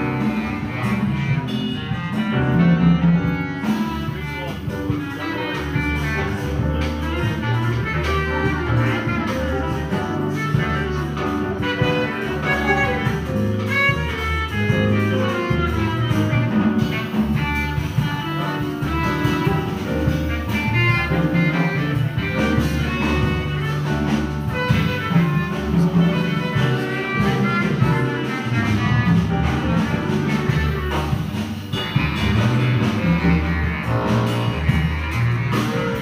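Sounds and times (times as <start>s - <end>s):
bass: 0.0s - 36.0s
drums: 0.0s - 36.0s
piano: 0.0s - 36.0s
saxophones: 0.0s - 36.0s
trombone: 0.0s - 36.0s.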